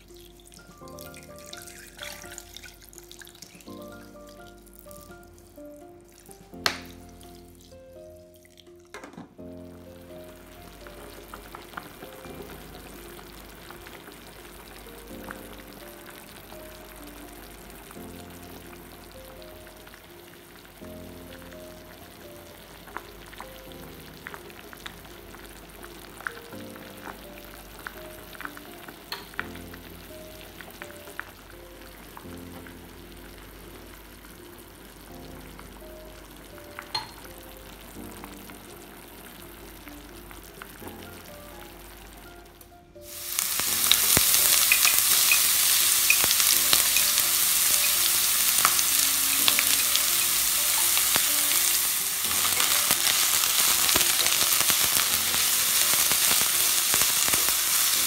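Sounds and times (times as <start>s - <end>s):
onions sizzling in a pan: 0.0s - 8.5s, 9.5s - 58.0s
soft background music: 0.0s - 58.0s.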